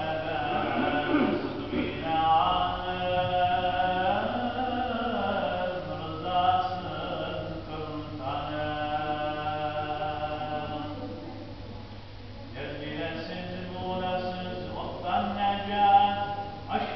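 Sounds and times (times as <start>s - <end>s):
man chanting religious recitation: 0.0s - 11.2s, 12.5s - 16.9s.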